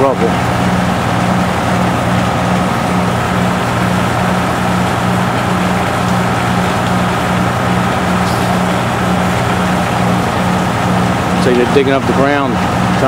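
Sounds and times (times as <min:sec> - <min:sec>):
diesel engine throbbing drone: 0:00.0 - 0:13.0.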